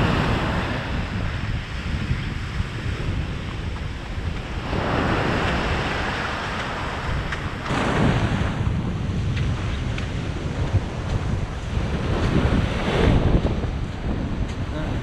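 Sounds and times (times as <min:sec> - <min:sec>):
surf breaking over sand: 0:00.0 - 0:15.0
wind buffeting microphone: 0:00.0 - 0:15.0.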